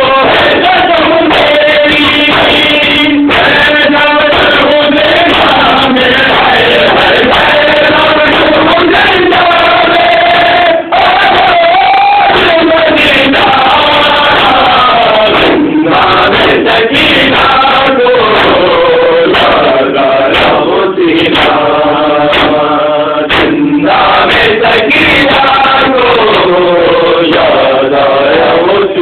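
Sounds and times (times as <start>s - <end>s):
men chanting into microphone: 0.0s - 29.0s.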